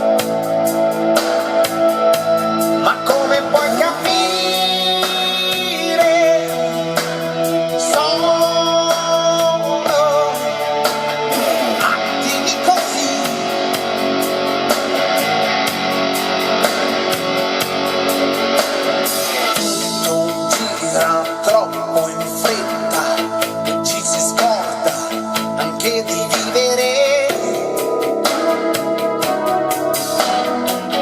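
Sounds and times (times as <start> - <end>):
pop song guitar over loudspeakers: 0.0 - 31.0.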